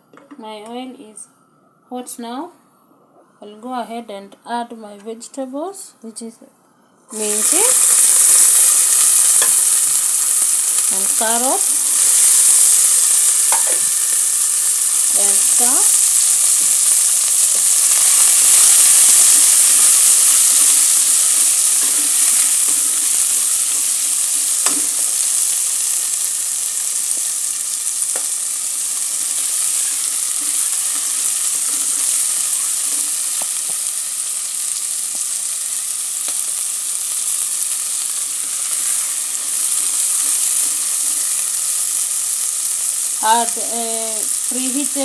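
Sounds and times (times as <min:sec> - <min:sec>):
vegetables sizzling in oil: 0:07.1 - 0:45.0.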